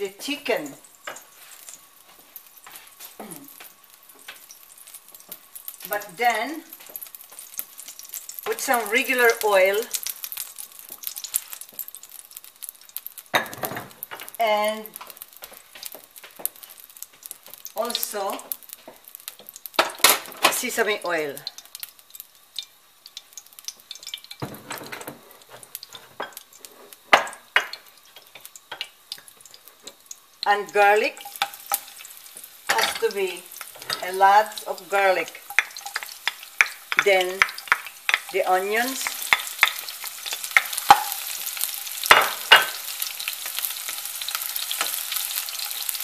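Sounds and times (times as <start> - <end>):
oil crackling in a pan: 0.0 - 46.0.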